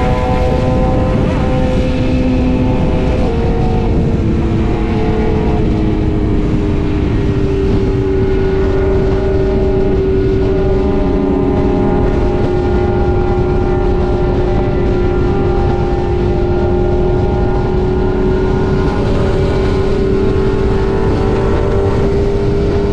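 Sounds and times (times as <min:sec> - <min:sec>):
motorcycle engine running: 0:00.0 - 0:22.9
wind rush on microphone: 0:00.0 - 0:22.9.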